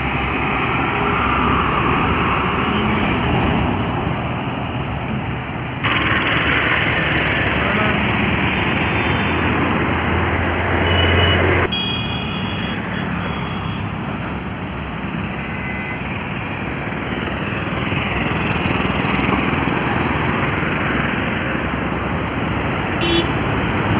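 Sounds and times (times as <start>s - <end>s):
highway traffic: 0.0s - 23.9s.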